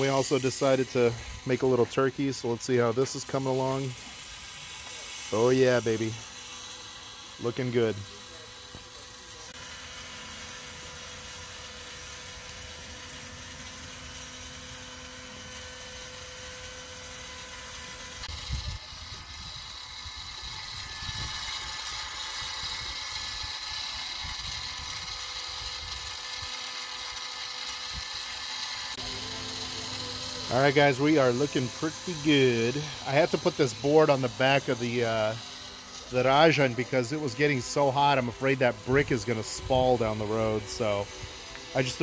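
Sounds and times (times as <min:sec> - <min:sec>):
spit-roaster motor humming: 0:00.0 - 0:42.0.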